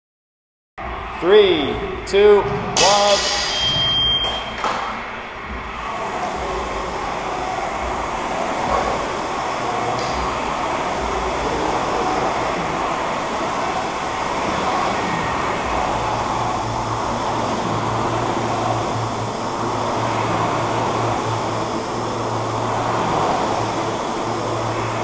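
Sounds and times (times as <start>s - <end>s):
rowing machine fans whooshing: 0.8s - 25.0s.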